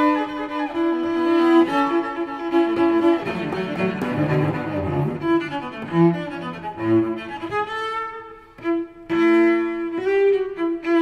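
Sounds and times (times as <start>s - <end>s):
bowed string melody: 0.0s - 11.0s.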